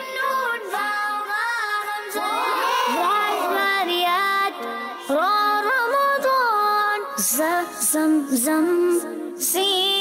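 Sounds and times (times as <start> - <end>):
high voice singing: 0.0 - 9.3.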